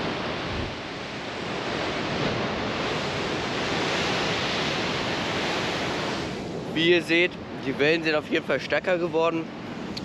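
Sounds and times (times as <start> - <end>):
waves crashing on rocks: 0.0 - 10.0.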